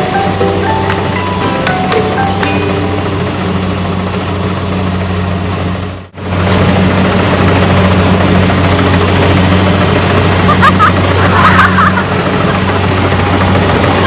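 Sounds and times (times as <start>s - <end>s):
heavy farm machinery engine humming: 0.0s - 14.0s.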